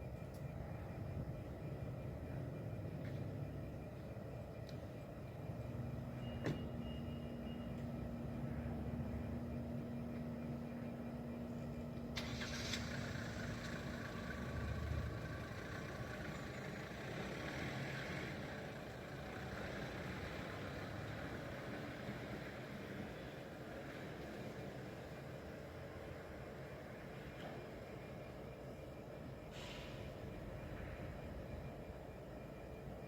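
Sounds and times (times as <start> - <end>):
constant hum: 0.0 - 33.0
vehicle engine rumbling: 0.0 - 33.0.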